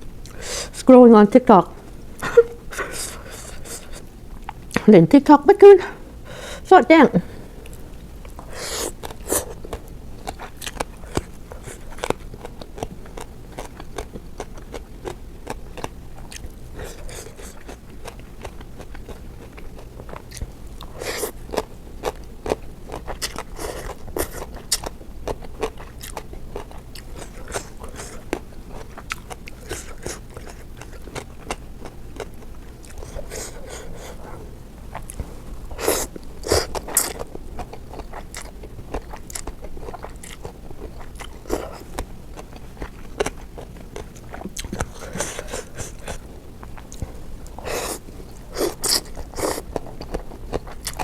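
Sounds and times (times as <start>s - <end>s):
person chewing crunchy food: 7.4s - 51.0s.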